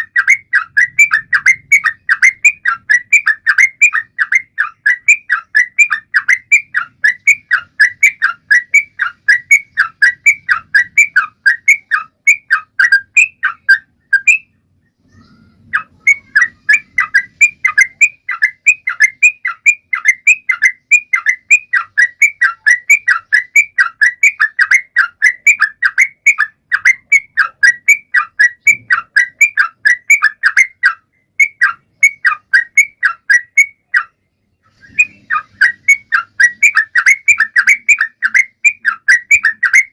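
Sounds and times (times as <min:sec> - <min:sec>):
bulbul chirping song: 0:00.0 - 0:39.9.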